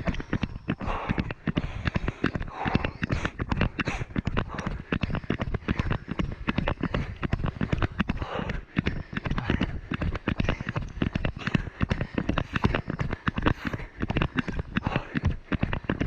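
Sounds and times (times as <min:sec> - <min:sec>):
footfalls on dirt trail: 0:00.9 - 0:08.6, 0:09.4 - 0:16.0.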